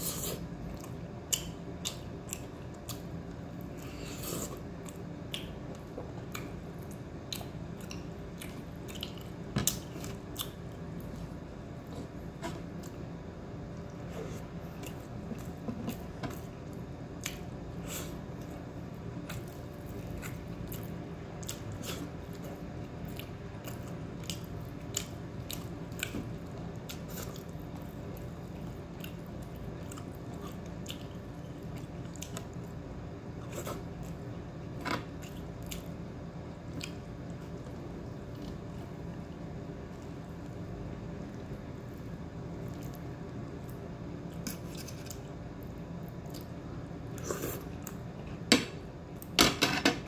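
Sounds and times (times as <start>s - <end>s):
person chewing food: 0.0s - 40.7s, 41.3s - 48.4s
low background hum: 0.0s - 50.0s.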